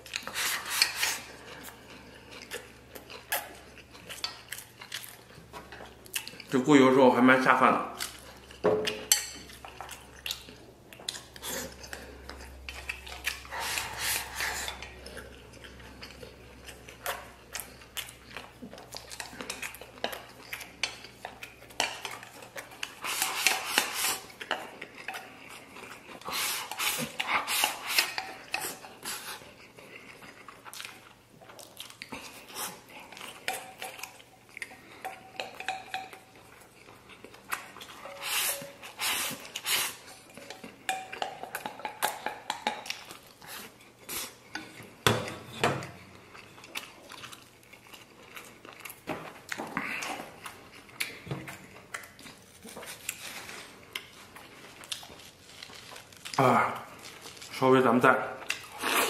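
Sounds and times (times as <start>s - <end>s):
chewing: 0.0s - 6.7s, 7.9s - 59.0s.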